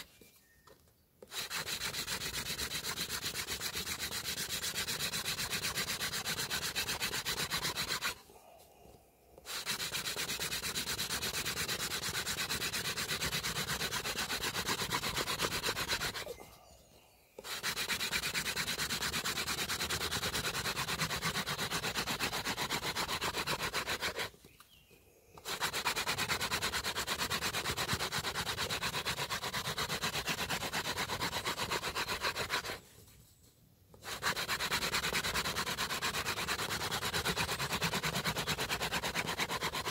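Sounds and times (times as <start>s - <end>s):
wood spindle rubbing on wood: 1.2s - 8.2s, 9.4s - 16.4s, 17.4s - 24.3s, 25.4s - 32.8s, 34.0s - 39.9s.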